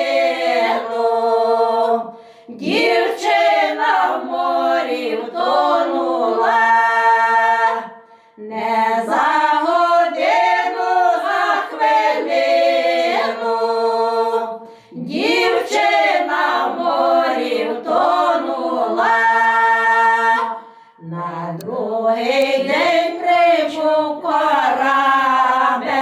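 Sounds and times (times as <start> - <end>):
women singing a cappella harmony: 0.0 - 26.0.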